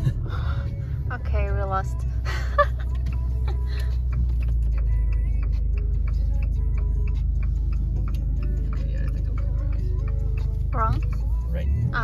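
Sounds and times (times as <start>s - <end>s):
car engine and road noise: 0.0s - 12.0s
light regular ticking: 0.6s - 12.0s.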